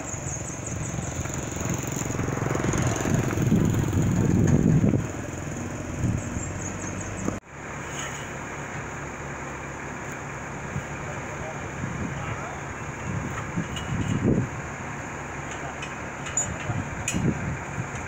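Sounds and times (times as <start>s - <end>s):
outdoor background: 0.0s - 18.0s
tractor engine running: 0.0s - 18.0s.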